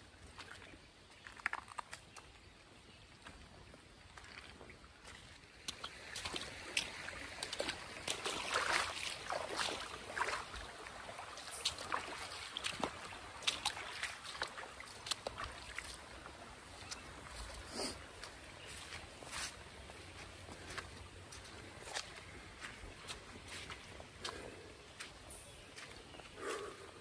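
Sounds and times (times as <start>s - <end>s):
feet wading through water: 0.0s - 27.0s.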